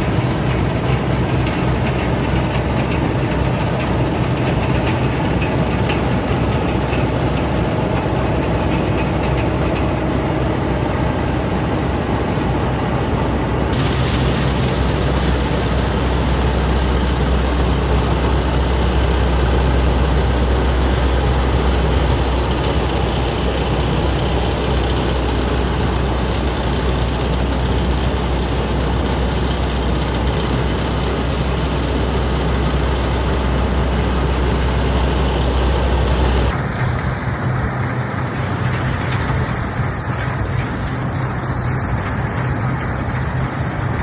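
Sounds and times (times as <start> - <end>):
combine harvester humming: 0.0 - 44.0.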